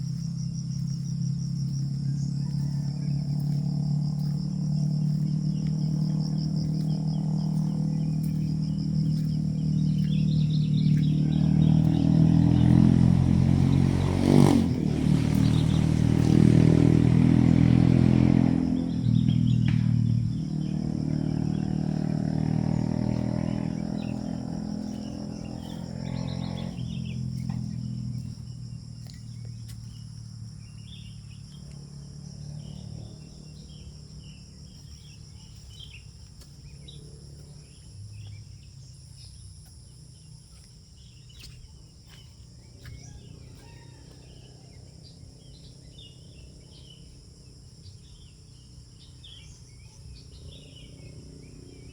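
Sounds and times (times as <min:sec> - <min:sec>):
bird chirps: 0:00.0 - 0:31.8, 0:32.6 - 0:51.9
high insect drone: 0:00.0 - 0:51.9
vehicle engine hum: 0:00.0 - 0:51.9.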